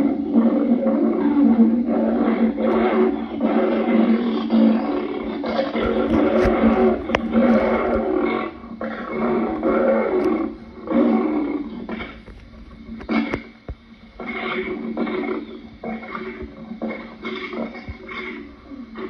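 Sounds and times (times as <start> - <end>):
lion roaring: 0.0 - 19.0.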